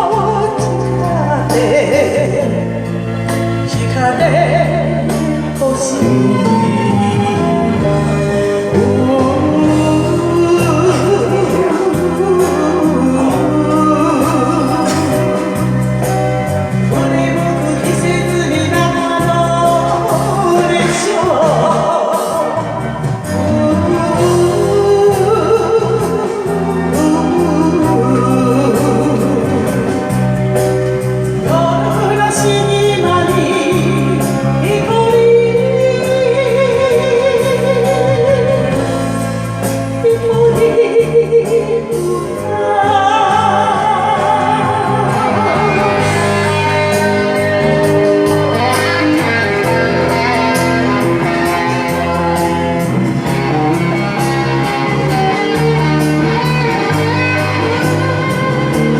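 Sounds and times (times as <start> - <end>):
steady bass line: 0.0 - 42.6, 43.4 - 58.9
lead melody with vibrato: 0.1 - 58.9.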